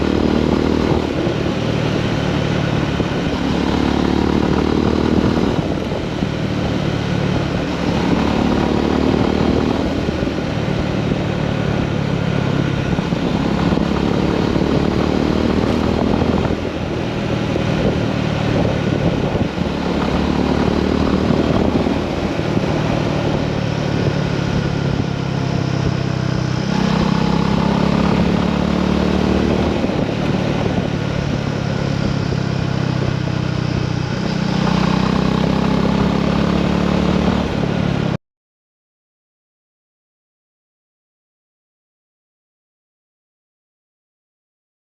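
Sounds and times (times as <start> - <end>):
motorcycle engine running: 0.0 - 38.2.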